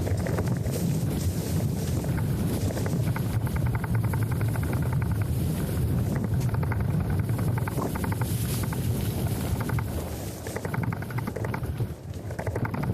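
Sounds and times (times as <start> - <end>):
fast light ticking: 2.0 - 12.9.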